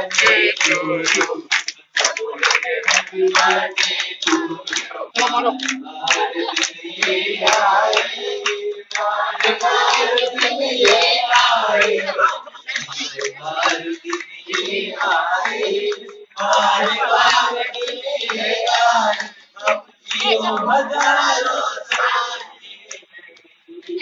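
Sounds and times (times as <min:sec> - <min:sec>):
group of people singing: 0:00.0 - 0:23.1
rhythmic clapping: 0:00.0 - 0:24.0.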